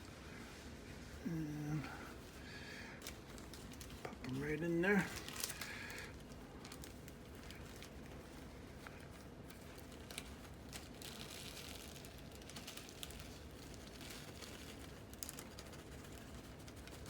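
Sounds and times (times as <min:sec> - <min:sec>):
plastic bag crinkling: 0:01.7 - 0:17.0.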